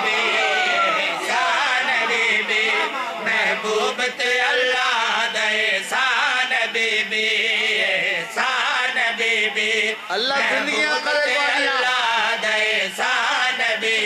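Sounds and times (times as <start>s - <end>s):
men chanting over loudspeakers: 0.0s - 14.0s.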